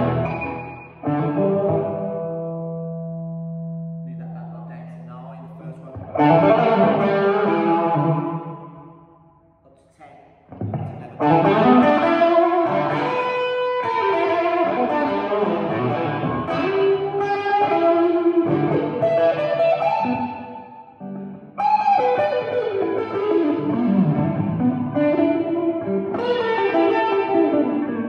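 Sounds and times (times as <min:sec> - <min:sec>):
electric guitar playing: 0:00.0 - 0:04.0, 0:05.7 - 0:09.0, 0:10.5 - 0:28.0.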